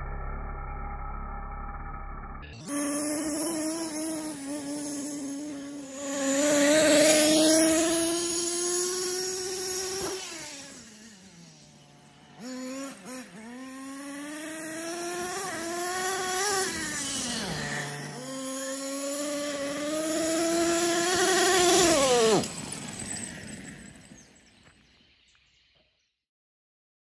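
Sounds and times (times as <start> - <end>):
small nitro engine revving: 0.0 - 24.5.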